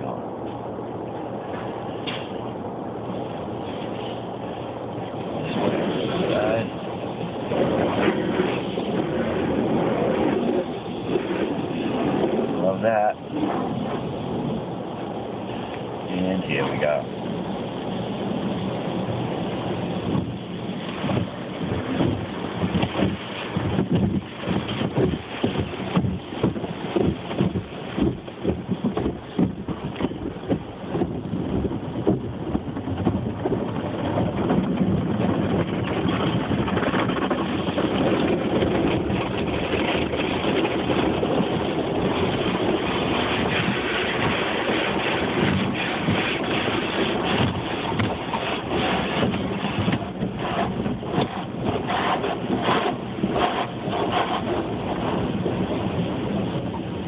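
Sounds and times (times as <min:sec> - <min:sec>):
car wash water spray and brushes: 0:00.0 - 0:57.0.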